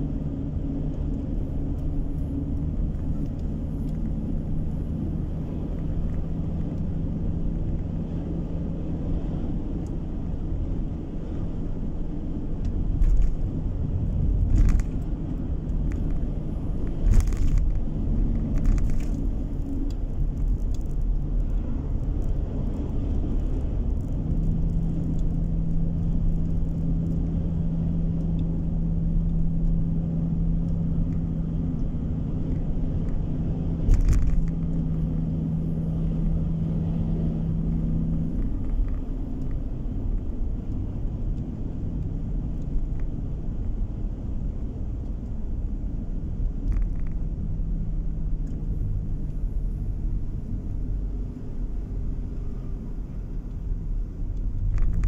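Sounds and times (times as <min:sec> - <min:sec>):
car road rumble from inside: 0:00.0 - 0:55.0.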